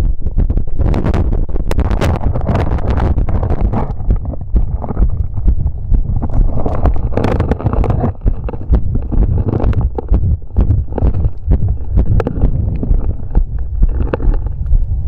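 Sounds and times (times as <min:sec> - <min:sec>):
heartbeat thuds: 0:00.0 - 0:15.0
stethoscope rubbing and knocking: 0:00.9 - 0:15.0.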